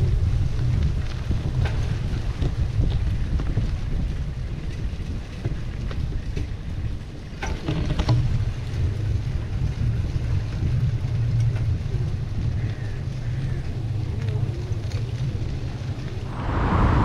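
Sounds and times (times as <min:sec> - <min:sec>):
bike rolling on gravel: 0:00.0 - 0:16.3
wind buffeting microphone: 0:00.0 - 0:17.0.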